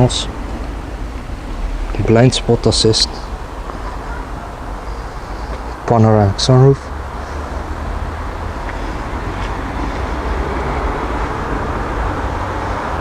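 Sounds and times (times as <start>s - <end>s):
low rumble of vehicle noise: 0.0s - 13.0s.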